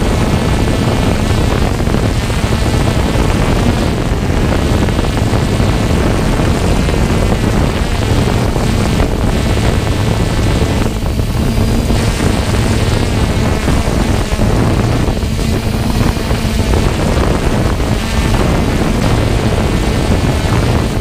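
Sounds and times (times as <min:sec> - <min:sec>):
constant rushing noise: 0:00.0 - 0:21.0
motor running steadily: 0:00.0 - 0:21.0.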